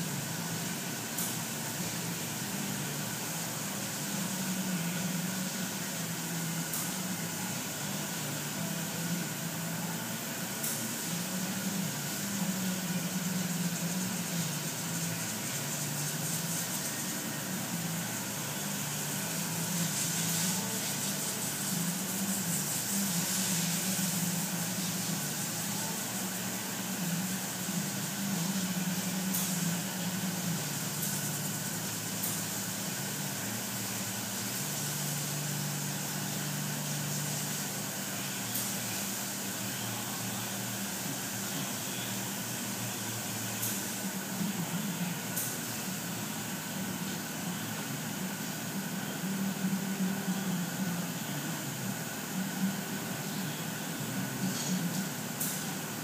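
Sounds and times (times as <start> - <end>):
machine hum with hiss: 0.0 - 56.0.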